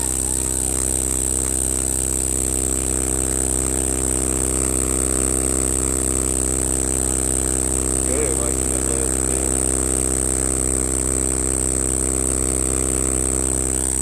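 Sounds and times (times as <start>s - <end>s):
cicada buzzing: 0.0s - 14.0s
low hum: 0.0s - 14.0s.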